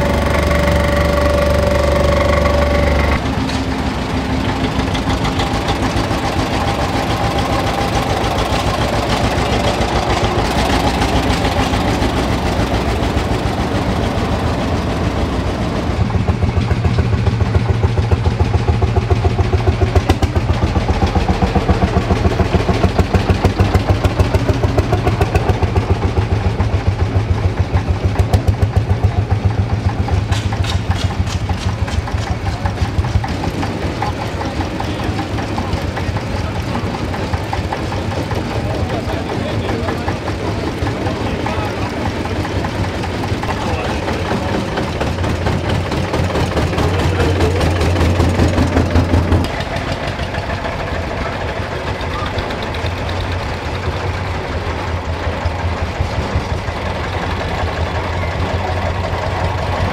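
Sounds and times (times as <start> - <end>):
heavy pulsing engine thump: 0.0 - 53.2
old tractor engines running: 0.0 - 59.9.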